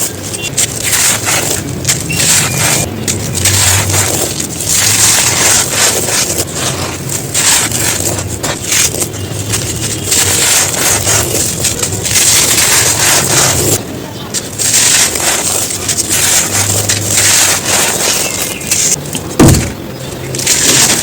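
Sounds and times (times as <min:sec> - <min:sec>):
dried chunks being crushed: 0:00.0 - 0:21.0.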